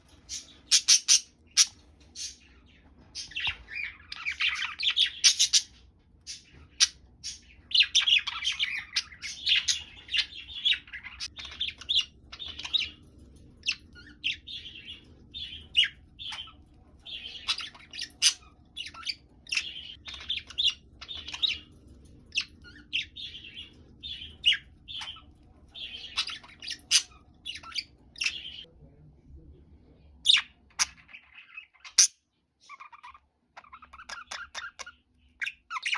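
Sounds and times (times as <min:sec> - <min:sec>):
budgerigars chirping and warbling: 0:00.0 - 0:28.7, 0:30.2 - 0:35.9.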